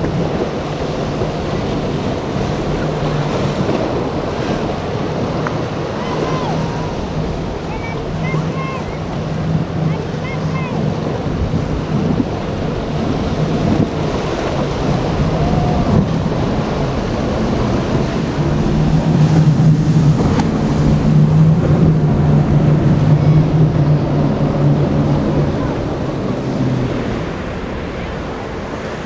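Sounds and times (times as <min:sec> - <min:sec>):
motorboat engine droning: 0:00.0 - 0:29.0
surf washing: 0:00.0 - 0:29.0
wind on microphone: 0:00.0 - 0:29.0.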